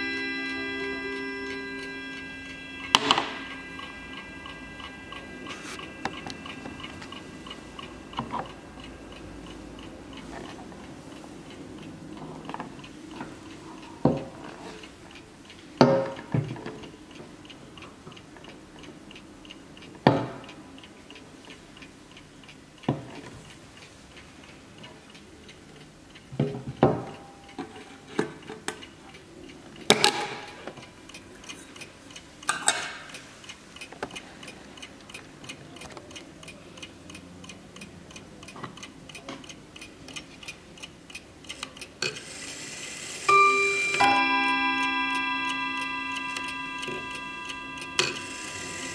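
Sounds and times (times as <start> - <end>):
clock ticking: 0.0 - 48.9.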